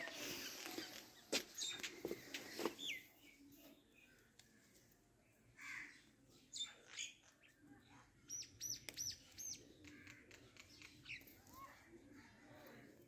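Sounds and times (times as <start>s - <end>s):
small bird chirping: 0.0s - 4.8s, 5.6s - 12.8s.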